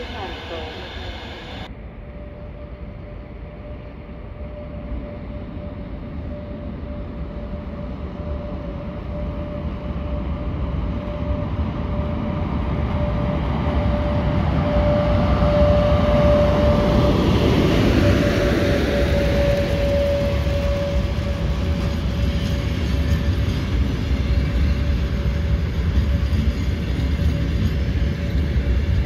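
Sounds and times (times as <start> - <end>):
electric train passing: 0.0 - 29.0
steady whining tone: 0.0 - 29.0.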